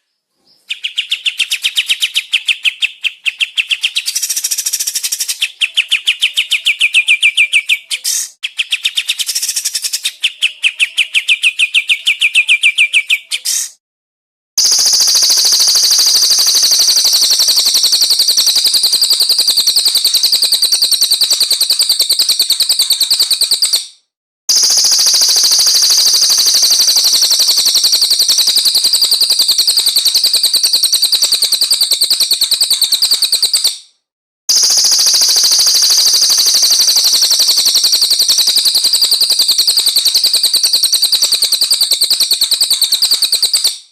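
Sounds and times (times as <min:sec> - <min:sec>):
recorded songbird song: 0:00.0 - 0:13.8, 0:14.6 - 0:23.9, 0:24.5 - 0:33.8, 0:34.5 - 0:43.9.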